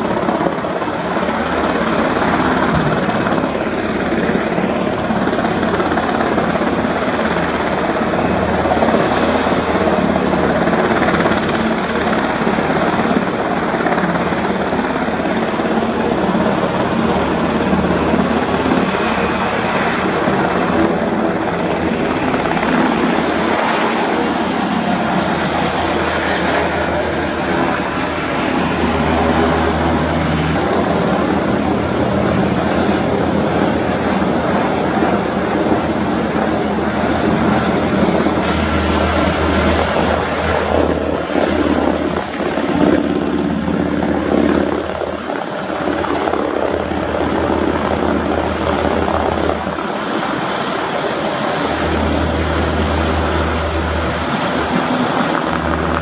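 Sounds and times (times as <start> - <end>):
helicopter rotors and engines: 0.0 - 56.0.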